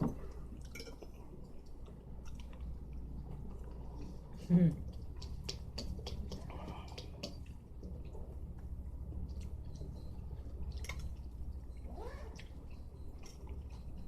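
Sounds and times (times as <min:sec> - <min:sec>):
chewing with small clicks: 0:00.0 - 0:14.0
steady low hum: 0:00.0 - 0:14.0.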